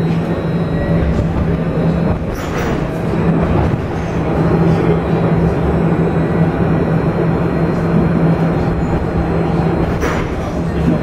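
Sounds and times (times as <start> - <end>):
low hum: 0.0 - 11.0
tram car rumbling: 0.0 - 11.0.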